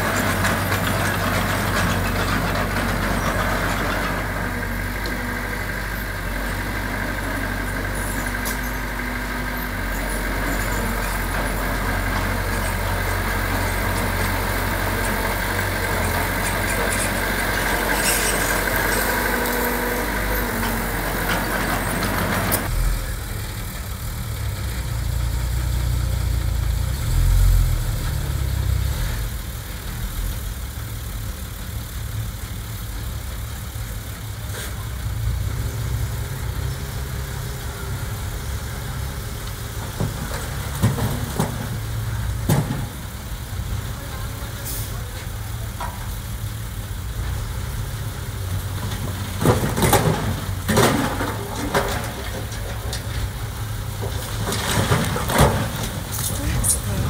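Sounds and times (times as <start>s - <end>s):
deep uneven engine rumble: 0.0s - 57.0s
heavy diesel engines running: 0.0s - 57.0s.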